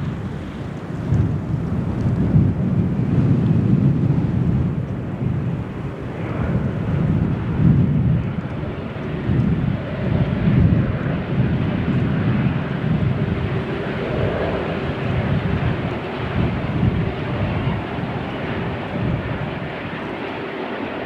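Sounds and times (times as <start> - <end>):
jet engine rumble at takeoff: 0.0 - 21.0.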